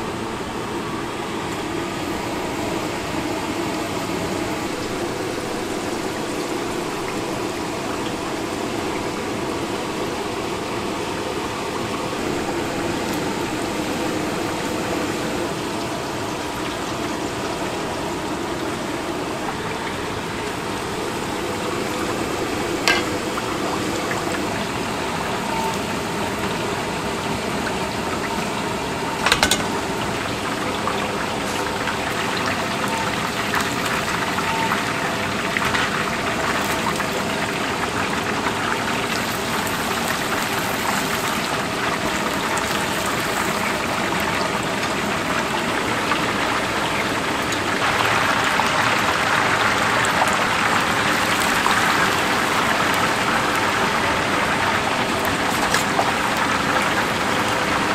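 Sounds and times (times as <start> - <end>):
oil bubbling and sizzling: 0.0 - 57.9.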